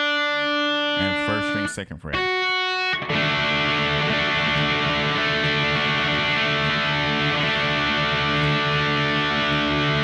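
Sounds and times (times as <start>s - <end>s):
distorted electric guitar chord: 0.0s - 10.0s.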